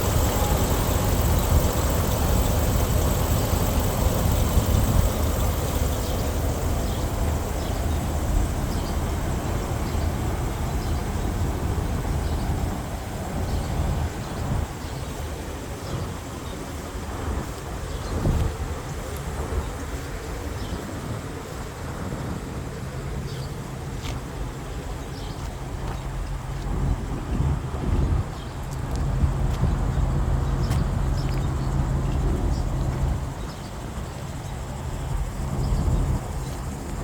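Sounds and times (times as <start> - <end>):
truck engine running: 0.0 - 18.7, 23.0 - 37.0.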